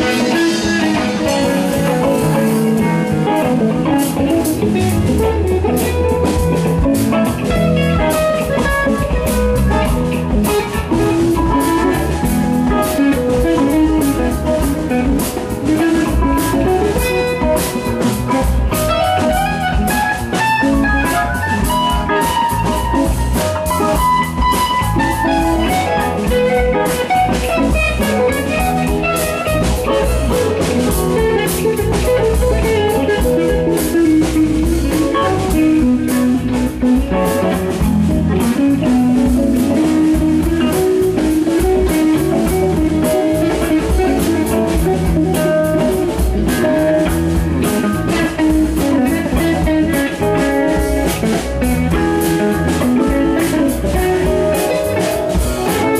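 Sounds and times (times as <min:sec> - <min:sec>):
drum hits: 0:00.0 - 0:55.9
electric guitar melody: 0:00.0 - 0:55.9
rock band playing: 0:00.0 - 0:55.9.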